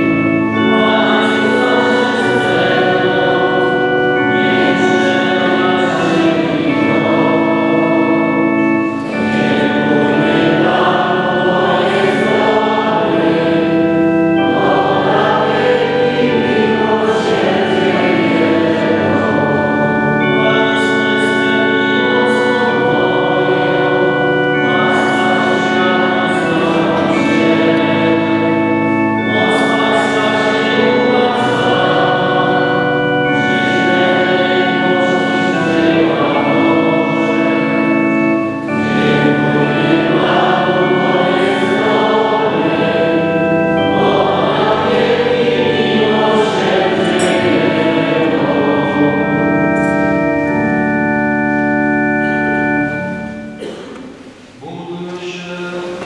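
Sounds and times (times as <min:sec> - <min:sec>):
choir singing a hymn: 0:00.0 - 0:56.0
held chords: 0:00.0 - 0:56.0.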